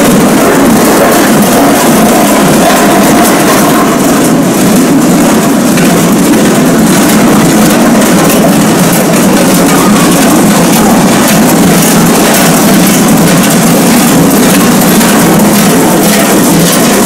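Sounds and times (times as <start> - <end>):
large metal bells clanging: 0.0 - 17.0.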